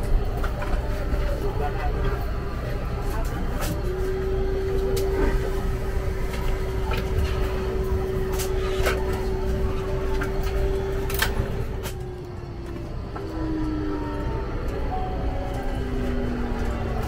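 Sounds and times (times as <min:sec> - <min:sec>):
airliner cabin hum: 0:00.0 - 0:17.0.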